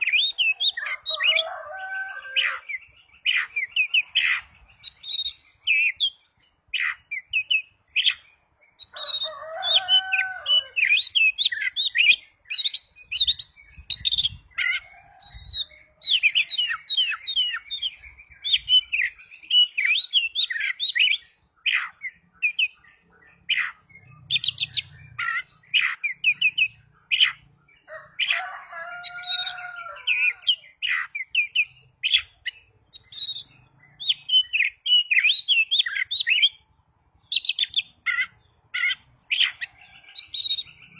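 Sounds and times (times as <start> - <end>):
lower harsh bird phrases: 0.0 - 40.9
magpie-robin singing: 0.0 - 40.9.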